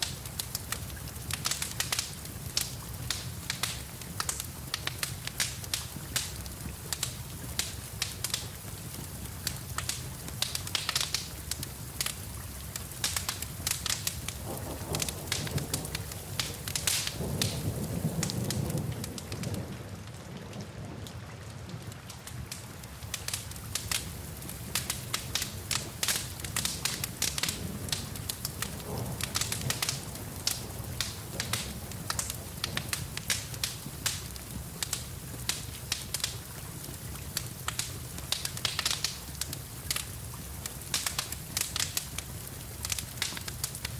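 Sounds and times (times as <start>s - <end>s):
steady rain: 0.0s - 43.9s
wood fire crackling: 0.0s - 43.9s.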